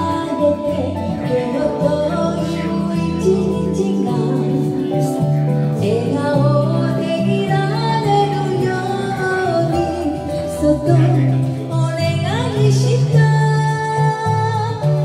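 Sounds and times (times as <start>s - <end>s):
karaoke backing track: 0.0s - 15.0s
woman singing into a microphone: 0.0s - 15.0s.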